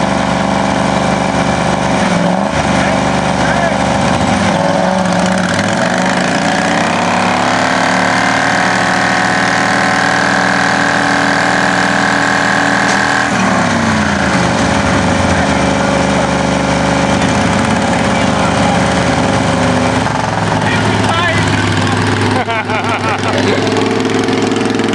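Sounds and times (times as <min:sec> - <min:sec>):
lawn mower engines revving: 0:00.0 - 0:24.9.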